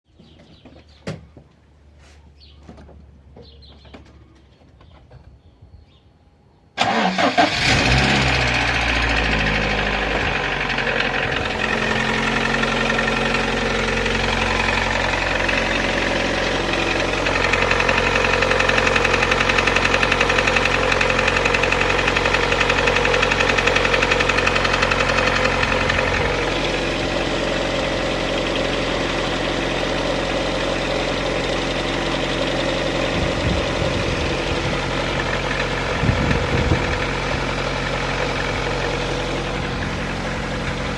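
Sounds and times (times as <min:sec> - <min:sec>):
car engine cranking and idling: 0:06.8 - 0:40.9
engine knocking: 0:07.5 - 0:40.9.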